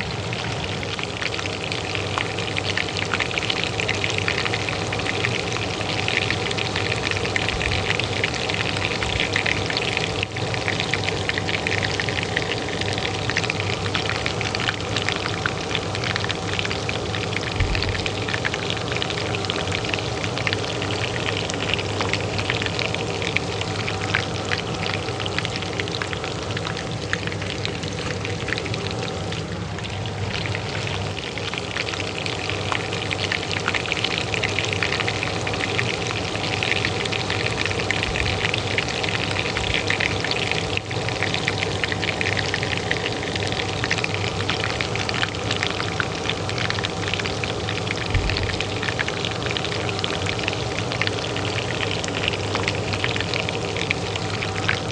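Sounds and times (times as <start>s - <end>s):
oil frying in a pan: 0.0s - 54.9s
range hood fan hum: 0.0s - 54.9s.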